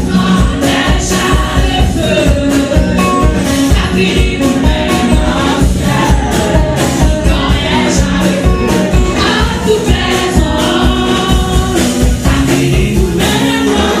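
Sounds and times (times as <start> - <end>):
congregation singing: 0.0 - 14.0.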